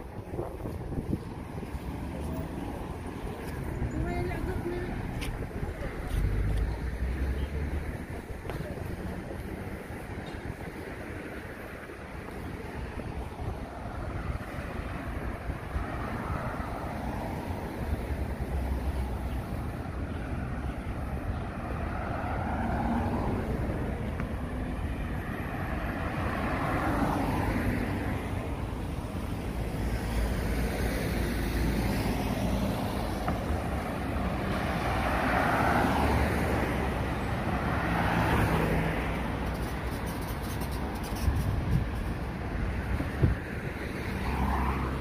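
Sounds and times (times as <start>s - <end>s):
low traffic rumble: 0.0s - 45.0s
vehicles passing by: 0.0s - 45.0s.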